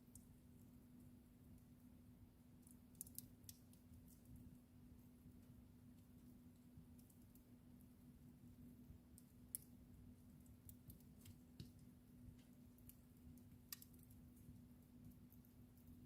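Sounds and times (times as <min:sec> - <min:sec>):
fire crackling faintly: 0:00.0 - 0:16.0.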